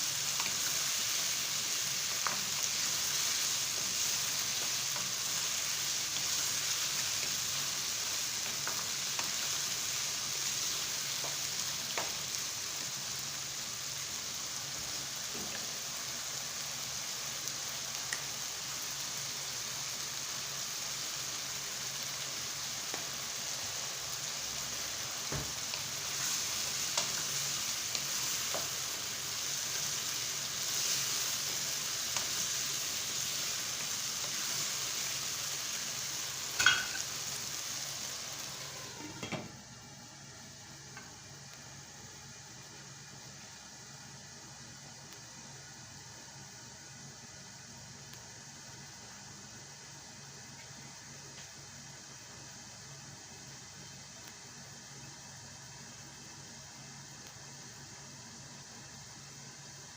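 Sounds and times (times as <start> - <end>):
food sizzling in a hot pan: 0.0 - 59.9.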